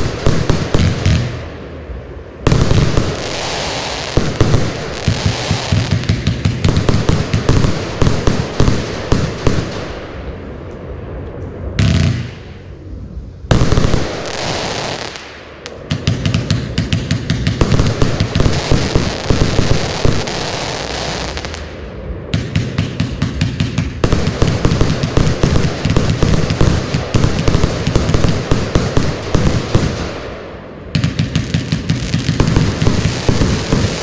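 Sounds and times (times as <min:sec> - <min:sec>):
firework cake firing volleys: 0:00.0 - 0:10.6, 0:13.5 - 0:34.0.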